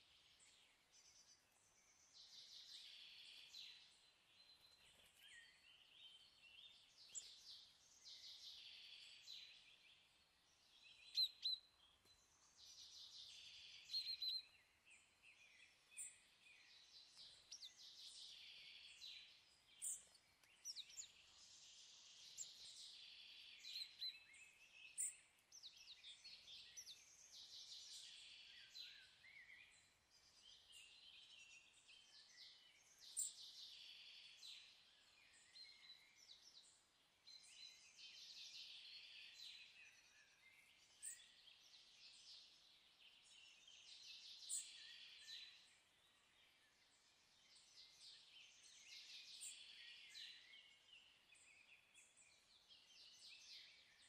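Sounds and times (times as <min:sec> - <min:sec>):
faint birdsong chirps and trills: 0:00.0 - 0:54.0.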